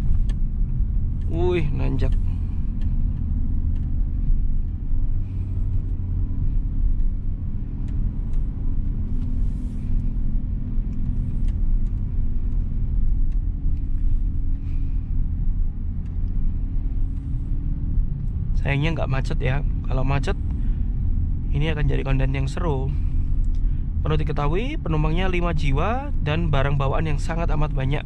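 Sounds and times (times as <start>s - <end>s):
low engine hum: 0.0s - 28.0s
tyre and road rumble: 0.0s - 28.0s.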